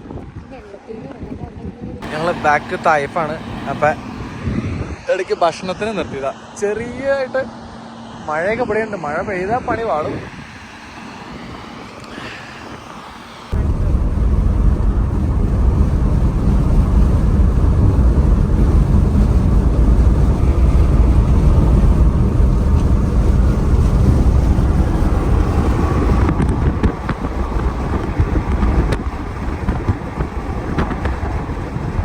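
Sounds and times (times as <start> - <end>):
car road noise: 0.0 - 32.0
wind rumbling on microphone: 0.0 - 32.0.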